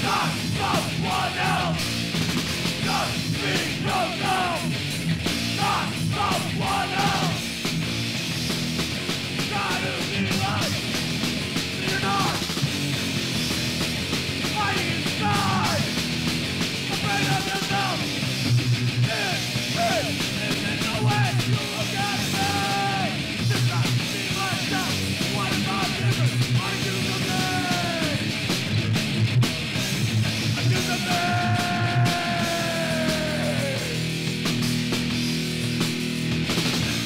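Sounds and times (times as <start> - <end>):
punk band playing: 0.0 - 37.0.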